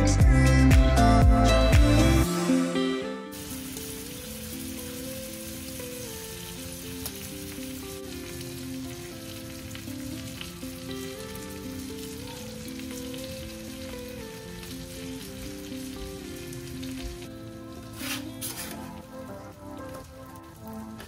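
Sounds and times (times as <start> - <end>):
gentle background music: 0.0 - 21.0
bread sizzling in butter: 3.3 - 21.0.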